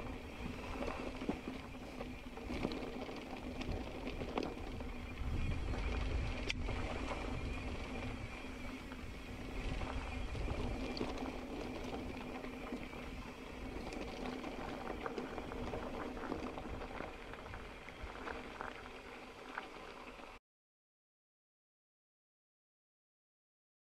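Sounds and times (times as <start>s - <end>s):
bike tyres crackling over gravel: 0.0s - 20.4s
wind rumbling on microphone: 0.0s - 20.4s.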